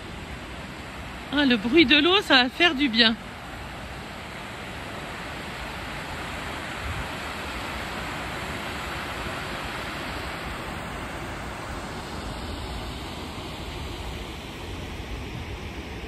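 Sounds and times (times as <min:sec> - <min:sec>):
river water rushing over weir: 0:00.0 - 0:16.0.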